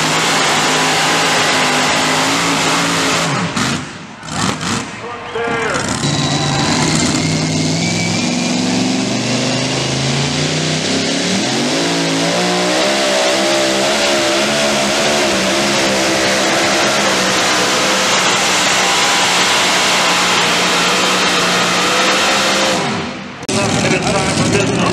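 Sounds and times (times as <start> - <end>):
supercharged truck engine revving: 0.0 - 24.9.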